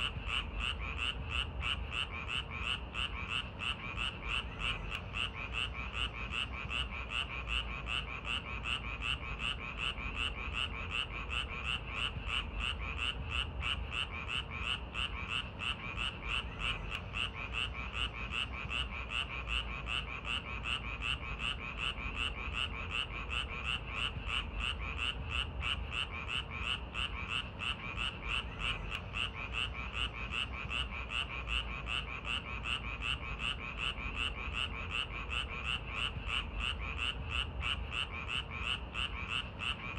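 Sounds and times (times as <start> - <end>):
frogs croaking in chorus: 0.0 - 39.9.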